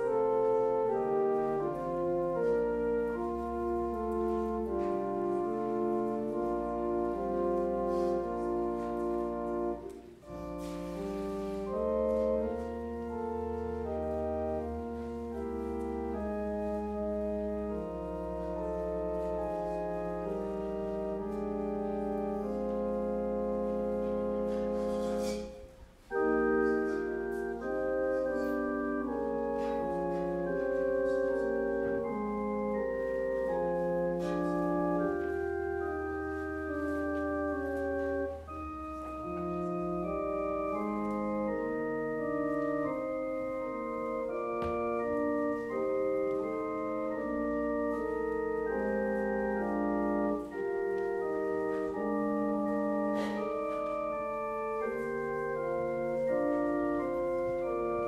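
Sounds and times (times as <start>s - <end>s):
organ playing slow chords: 0.0s - 58.0s.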